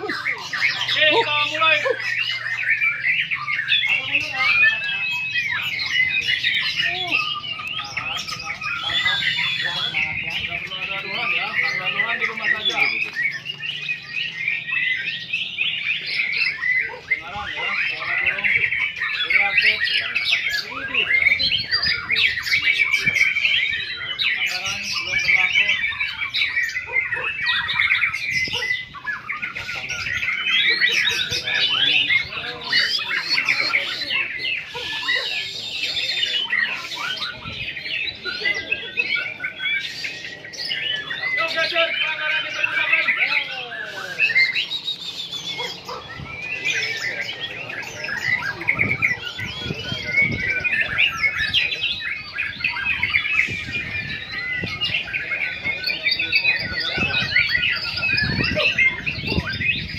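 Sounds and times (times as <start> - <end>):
birds singing chirps and trills: 0.0 - 59.9.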